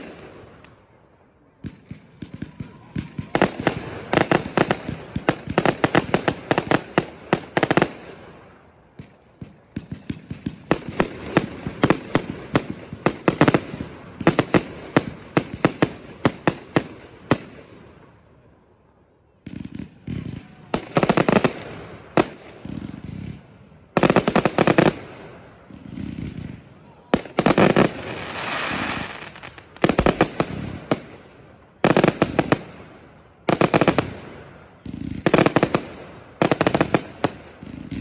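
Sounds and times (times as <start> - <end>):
fireworks bangs: 0.0 - 18.4, 19.3 - 38.0.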